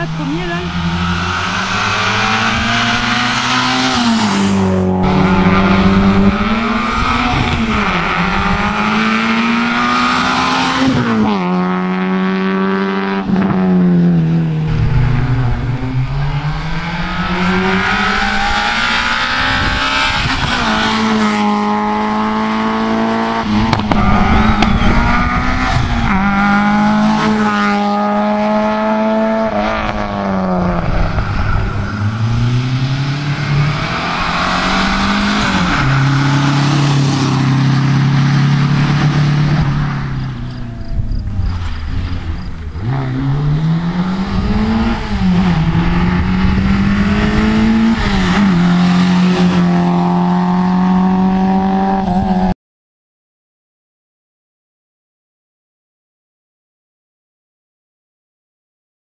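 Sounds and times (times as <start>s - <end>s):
rally car engines revving: 0.0s - 52.6s.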